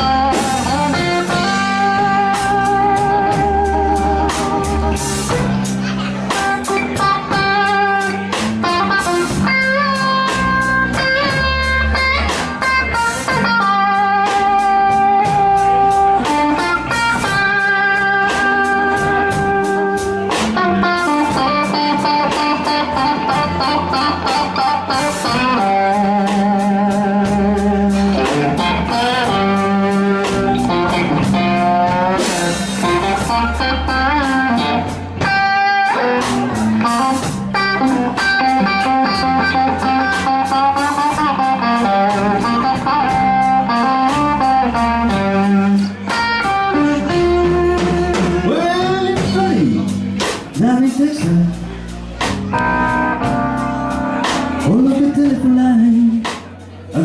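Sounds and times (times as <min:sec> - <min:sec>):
lead electric guitar: 0:00.0 - 0:57.0
slow blues band: 0:00.0 - 0:57.0.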